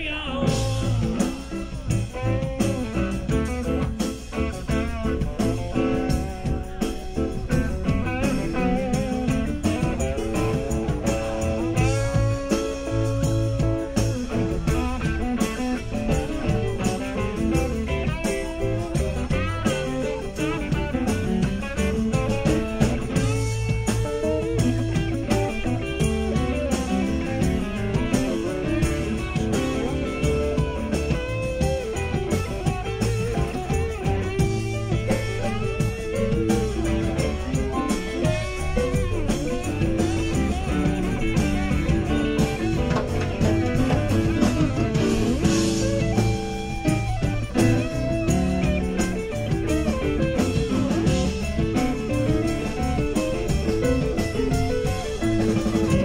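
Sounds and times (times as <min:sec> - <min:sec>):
bass and drums: 0:00.0 - 0:56.0
guitar solo with bending notes: 0:00.0 - 0:56.0.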